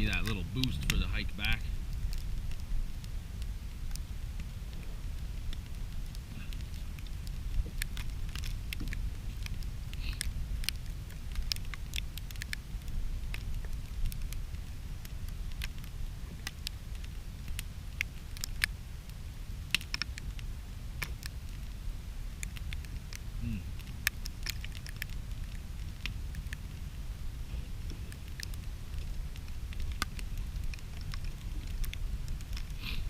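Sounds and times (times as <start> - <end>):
campfire crackling and popping: 0.0 - 33.0
low wind rumble: 0.0 - 33.0.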